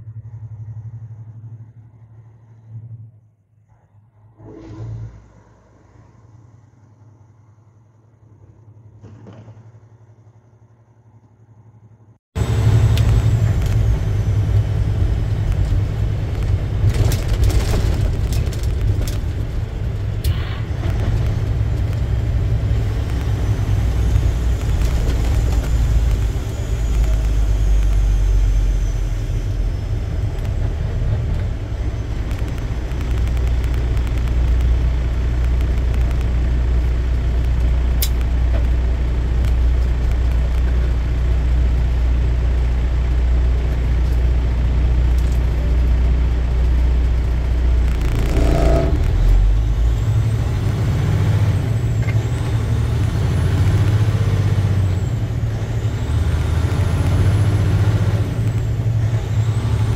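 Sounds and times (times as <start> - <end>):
truck engine and road rumble: 0.0 - 59.9.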